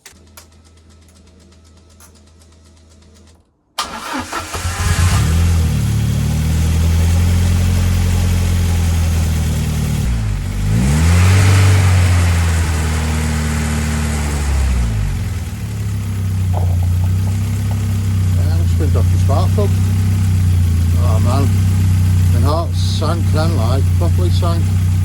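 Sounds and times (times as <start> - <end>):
car engine starting and running: 0.0 - 25.0.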